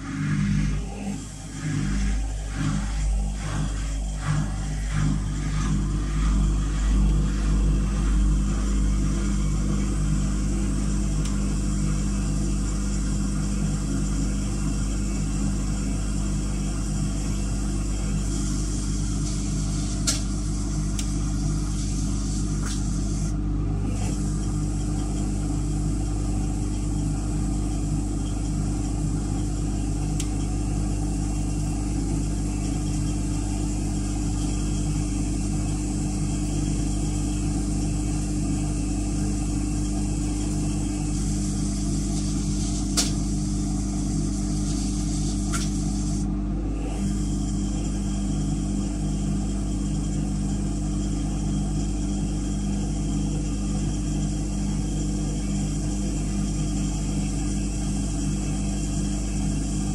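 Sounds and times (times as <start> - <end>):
washing machine motor hum: 0.0 - 59.9.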